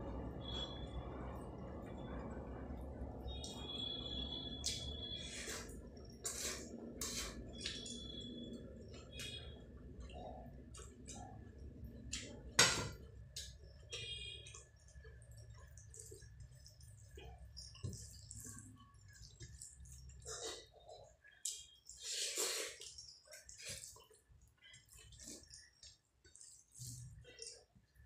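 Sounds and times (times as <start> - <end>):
eating and chewing: 4.6 - 28.0.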